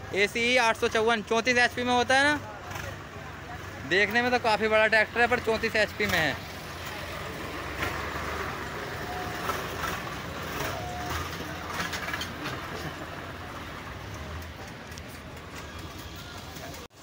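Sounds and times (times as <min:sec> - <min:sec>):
tractor diesel engines rumbling: 0:00.0 - 0:17.0.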